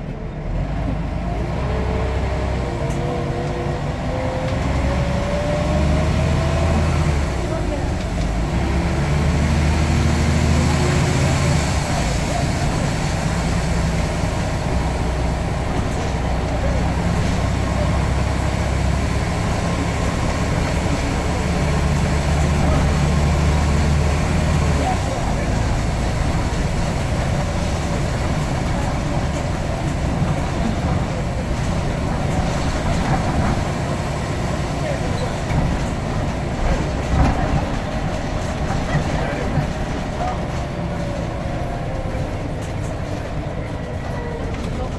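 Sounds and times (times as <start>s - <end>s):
bus engine droning: 0.0s - 44.9s
road noise: 0.0s - 44.9s
vehicle noise: 0.0s - 44.9s.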